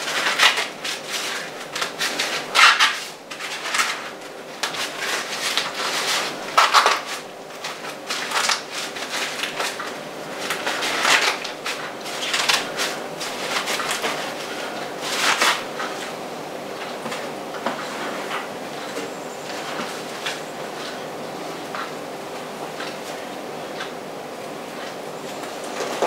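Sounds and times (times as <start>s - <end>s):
corn husks rustling and tearing: 0.0s - 26.0s.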